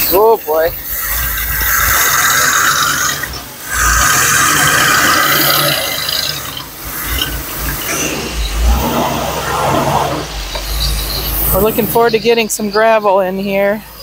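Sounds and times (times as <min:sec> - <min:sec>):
loud rushing hiss: 0:00.0 - 0:12.1
engine running: 0:00.0 - 0:14.0.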